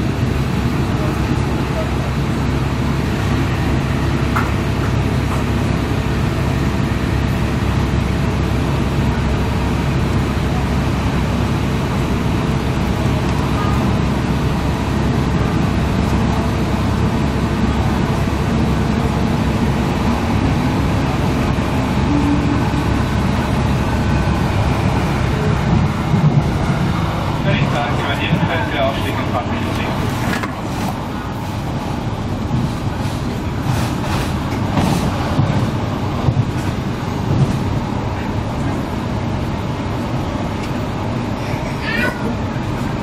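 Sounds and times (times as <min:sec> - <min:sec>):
train engine low drone: 0:00.0 - 0:43.0
train wheels rolling on rails: 0:00.0 - 0:43.0.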